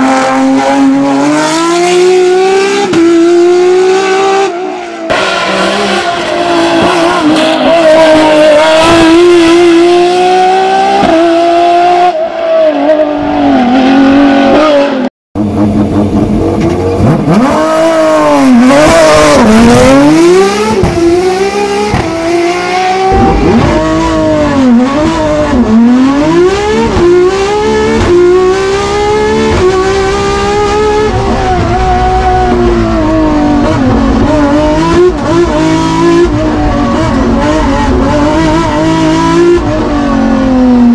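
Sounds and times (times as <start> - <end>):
race car engine revving high: 0.0 - 40.9.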